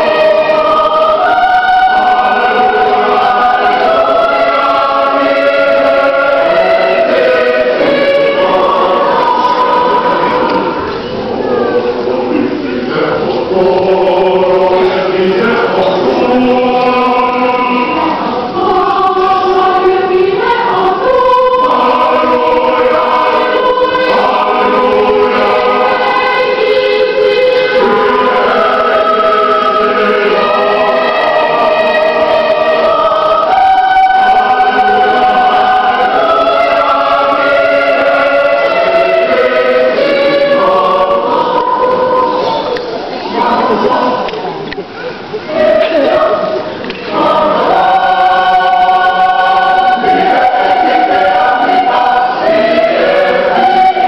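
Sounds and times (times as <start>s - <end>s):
choir singing sustained chords: 0.0s - 54.0s.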